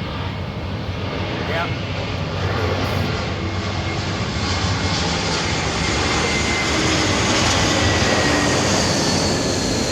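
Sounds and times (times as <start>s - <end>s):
jet airliner engine noise: 0.0s - 9.9s.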